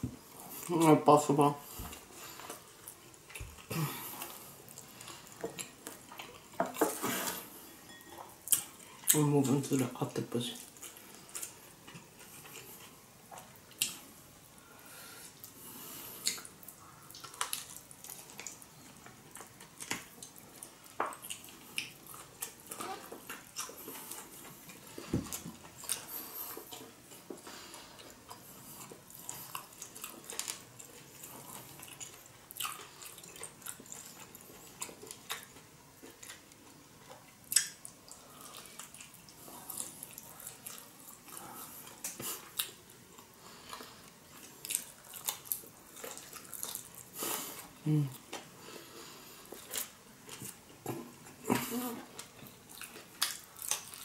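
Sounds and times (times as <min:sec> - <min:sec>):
person chewing with wet smacks: 0:01.8 - 0:07.0, 0:10.6 - 0:14.0, 0:16.2 - 0:48.5, 0:49.4 - 0:54.0.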